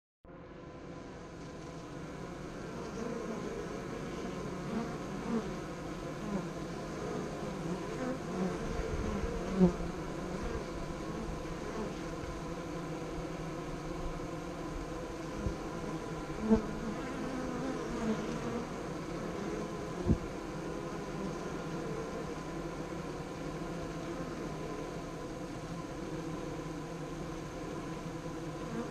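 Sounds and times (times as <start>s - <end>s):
bees buzzing: 0.3s - 28.9s.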